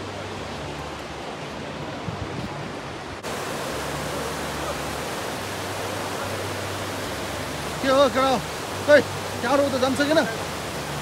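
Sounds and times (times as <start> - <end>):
river rushing over rapids: 0.0 - 11.0.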